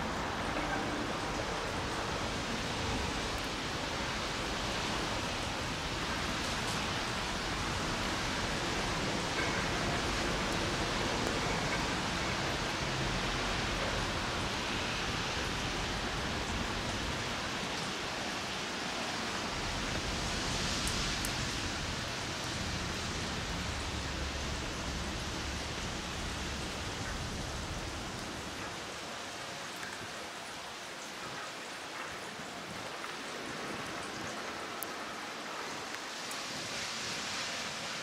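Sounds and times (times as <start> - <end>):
light rain hissing: 0.0 - 38.0.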